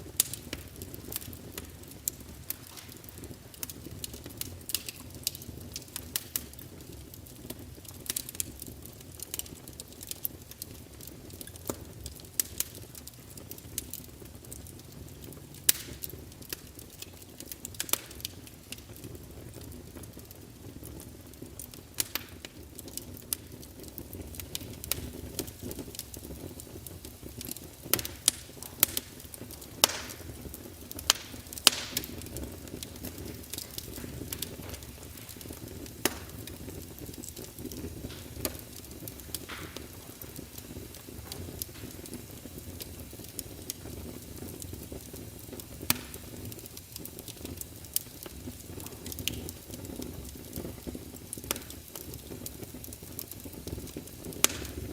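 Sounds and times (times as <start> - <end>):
fire crackling: 0.0 - 54.9.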